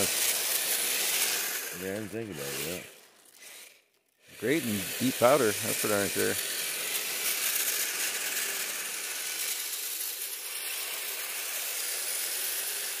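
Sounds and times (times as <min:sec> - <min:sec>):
radio-controlled vehicle motor whirring: 0:00.0 - 0:13.0.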